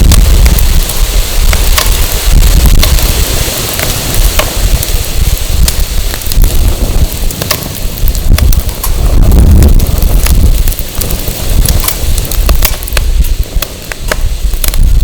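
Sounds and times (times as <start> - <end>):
firewood crackling: 0.0 - 15.0
wind buffeting microphone: 0.0 - 15.0.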